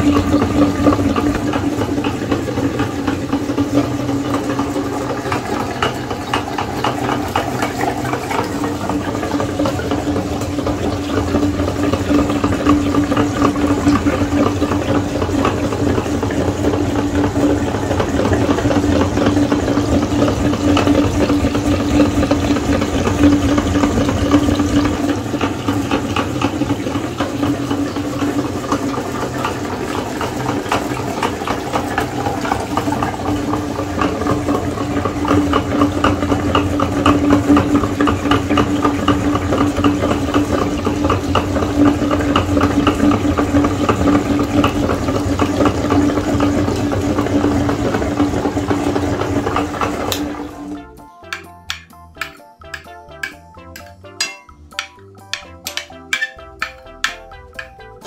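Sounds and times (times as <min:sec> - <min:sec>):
meat grinder squelching: 0:00.0 - 0:58.0.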